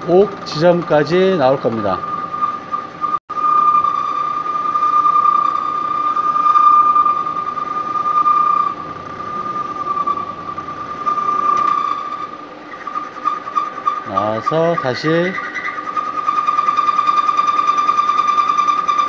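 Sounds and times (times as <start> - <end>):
lathe cutting high-pitched whine: 0.0 - 19.0.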